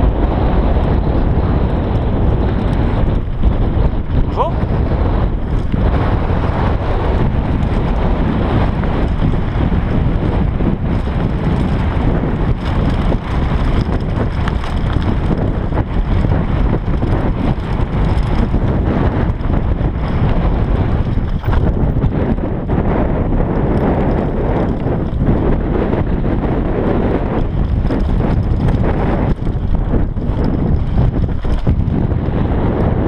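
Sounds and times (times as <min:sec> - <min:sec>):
wind buffeting microphone: 0:00.0 - 0:33.0
bike rattling over rocks: 0:00.1 - 0:22.7, 0:23.3 - 0:33.0.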